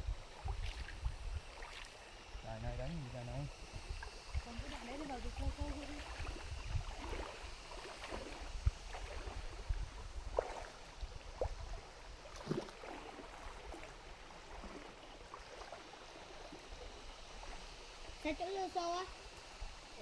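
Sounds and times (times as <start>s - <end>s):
splashes and gurgles: 0.0s - 2.4s, 3.6s - 20.0s
stream water running: 0.0s - 20.0s.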